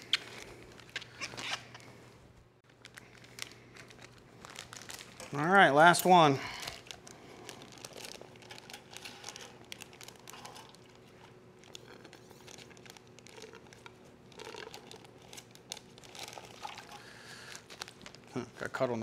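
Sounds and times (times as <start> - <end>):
plastic bag crinkling: 2.7 - 19.0.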